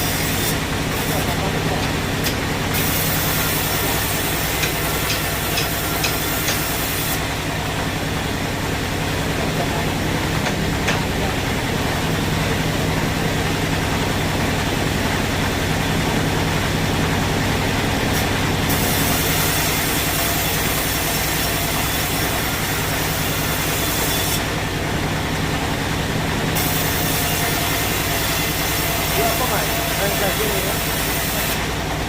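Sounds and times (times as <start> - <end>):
sawmill machinery humming: 0.0 - 32.0.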